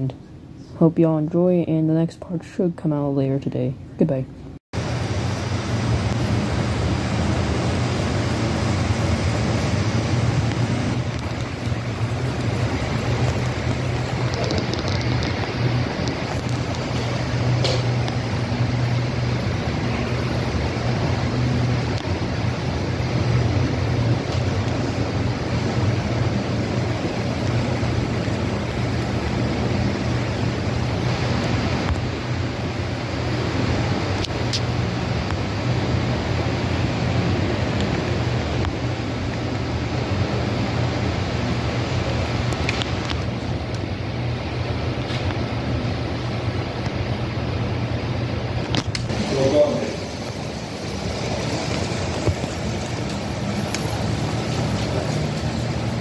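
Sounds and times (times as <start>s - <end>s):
model train rumble and hum: 4.8s - 56.0s.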